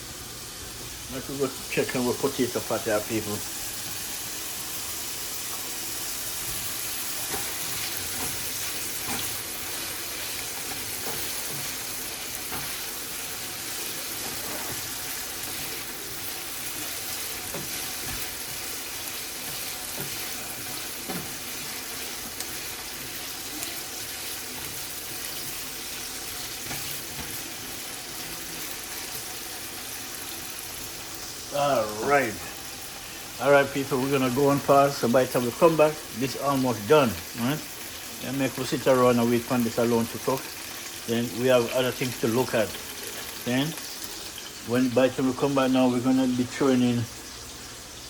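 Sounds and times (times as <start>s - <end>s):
potatoes sizzling in hot oil: 0.0s - 48.0s.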